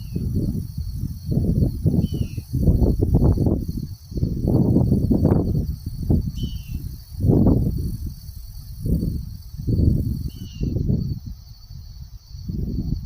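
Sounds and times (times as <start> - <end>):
insects droning: 0.0 - 13.0
wind buffeting microphone: 0.0 - 13.0.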